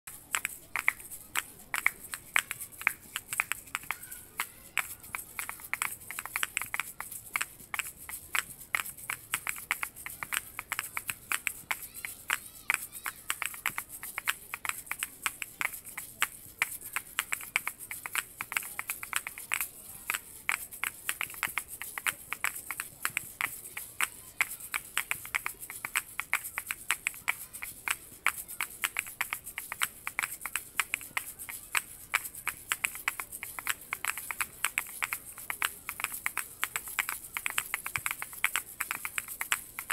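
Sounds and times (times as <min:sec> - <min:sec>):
high seed rattle: 0:00.1 - 0:39.9.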